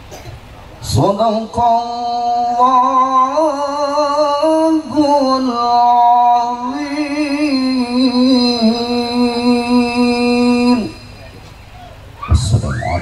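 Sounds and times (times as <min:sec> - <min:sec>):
man chanting into a microphone: 0:00.8 - 0:11.4.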